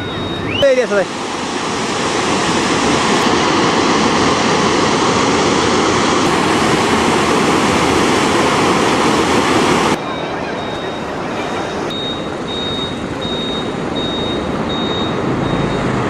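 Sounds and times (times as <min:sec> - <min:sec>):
flood water rushing: 0:00.0 - 0:16.0.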